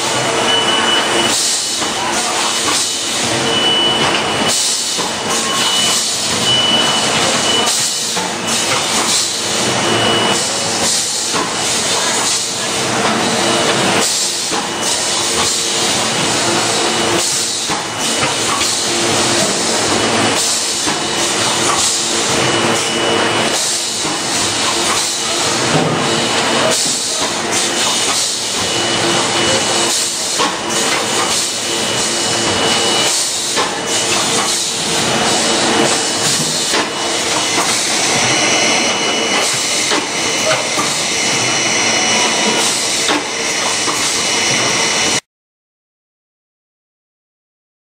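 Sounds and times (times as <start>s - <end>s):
hissing machine noise: 0.0s - 45.2s.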